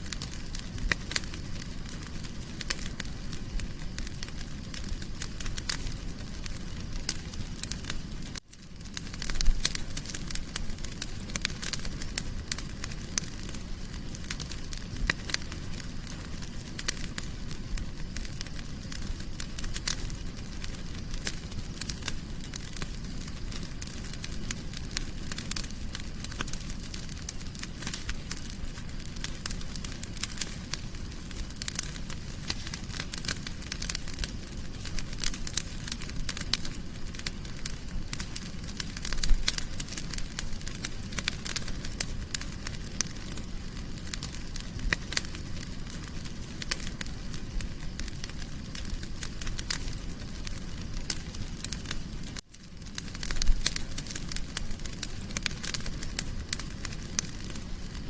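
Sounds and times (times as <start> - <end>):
wood fire crackling in a fireplace: 0.0 - 58.0.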